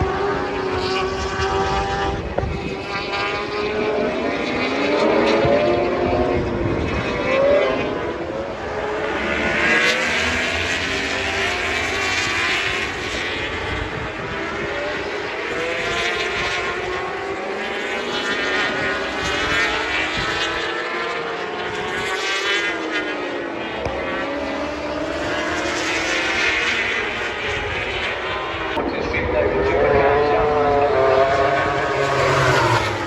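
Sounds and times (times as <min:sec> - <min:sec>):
racing motorcycle engines: 0:00.0 - 0:33.0.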